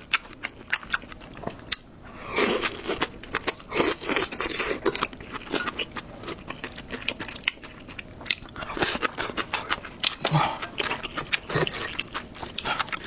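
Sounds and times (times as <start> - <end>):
chewing and crunching food: 0.0 - 13.0.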